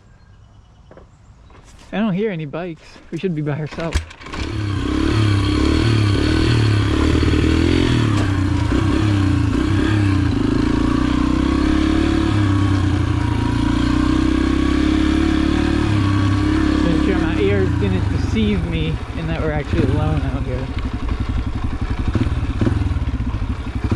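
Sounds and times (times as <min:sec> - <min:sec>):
motorcycle engine revving: 0:03.8 - 0:23.9.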